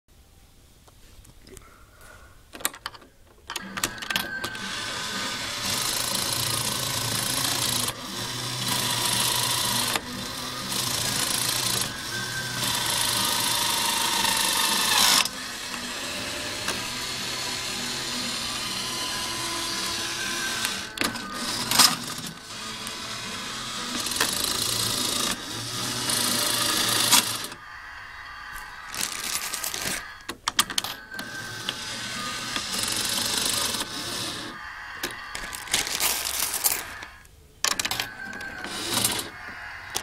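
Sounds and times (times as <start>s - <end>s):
toy machine clicks: 2.7s - 27.6s, 28.7s - 40.0s
small motors whirring: 3.6s - 27.9s, 28.6s - 40.0s.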